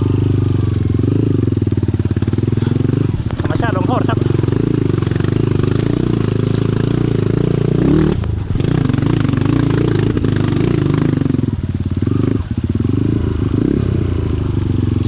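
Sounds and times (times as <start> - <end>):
off-road motorcycle engine revving: 0.0 - 15.0.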